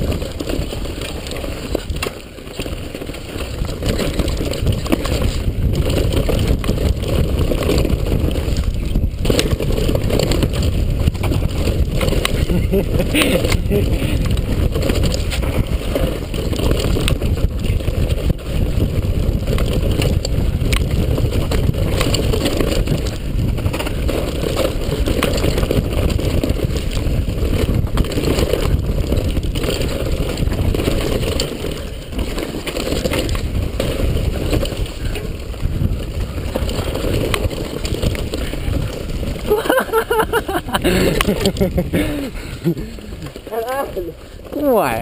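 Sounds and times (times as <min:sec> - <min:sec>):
bike knocking over ground: 0:00.0 - 0:43.5
tyres rumbling on dirt: 0:00.0 - 0:45.0
wind on microphone: 0:00.0 - 0:45.0.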